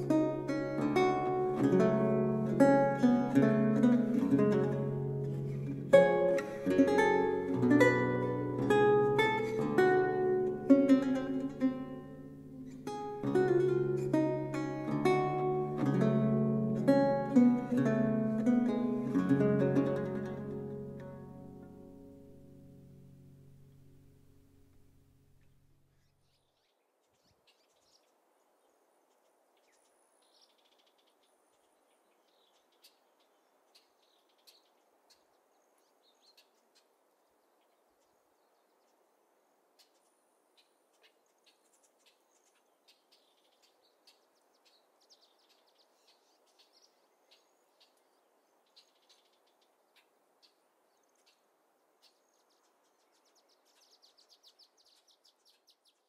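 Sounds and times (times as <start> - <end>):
background hiss: 0.0 - 56.0
small birds chirping: 0.0 - 56.0.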